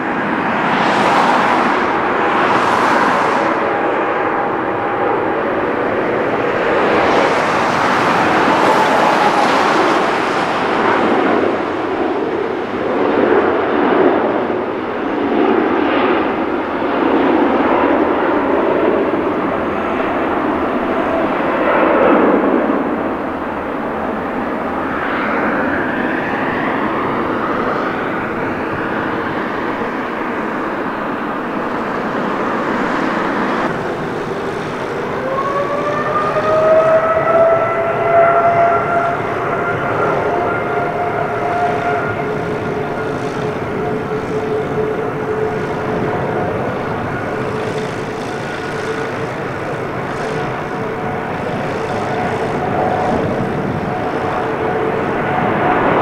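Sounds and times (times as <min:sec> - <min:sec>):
jet engine whine rising: 0:00.0 - 0:56.0
jet engines rushing: 0:00.0 - 0:56.0.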